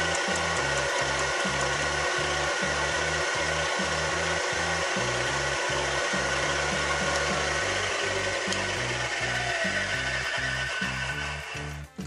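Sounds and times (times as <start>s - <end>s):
milling machine whine and cutting: 0.0s - 11.8s
background music with bass line: 0.0s - 12.0s.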